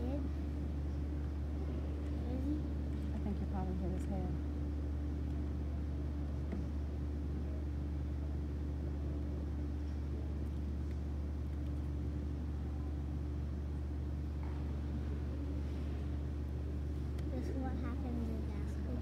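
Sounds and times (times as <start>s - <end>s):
machinery low hum: 0.0s - 19.0s.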